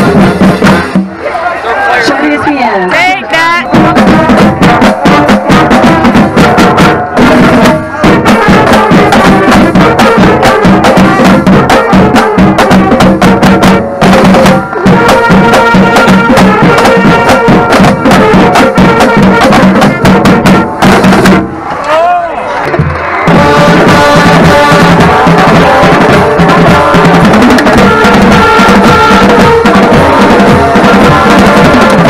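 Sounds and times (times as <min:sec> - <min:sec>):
drums beating fast rhythm: 0:00.0 - 0:32.0
horns holding notes: 0:00.0 - 0:32.0
marching band playing: 0:00.0 - 0:32.0.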